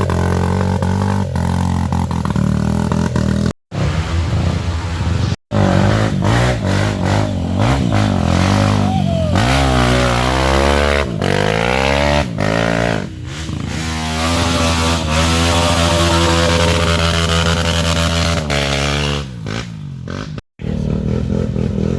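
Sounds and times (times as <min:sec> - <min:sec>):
off-road motorcycle engines revving: 0:00.0 - 0:21.9.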